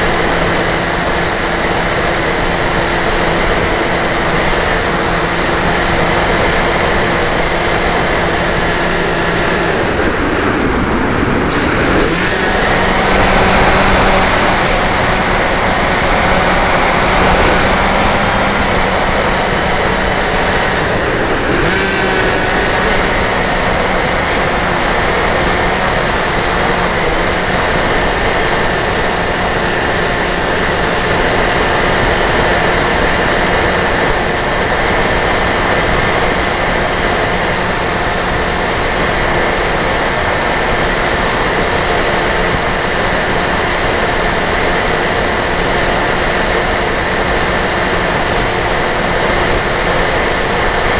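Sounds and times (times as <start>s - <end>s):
electric motor and propeller drone: 0.0s - 50.9s.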